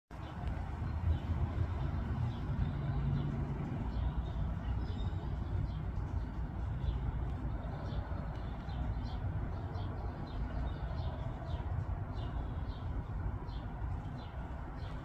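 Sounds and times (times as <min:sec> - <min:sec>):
low outdoor rumble: 0:00.1 - 0:15.0
small birds chirping: 0:00.1 - 0:15.0.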